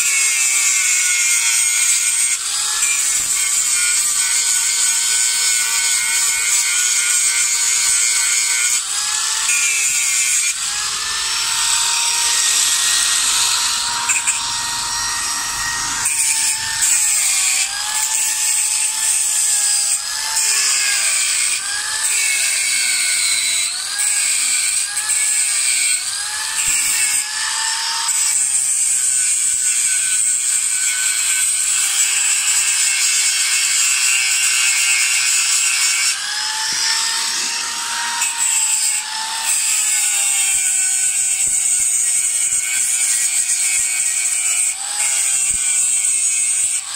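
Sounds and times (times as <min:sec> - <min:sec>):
angle grinder grinding steel: 0:00.0 - 0:46.9.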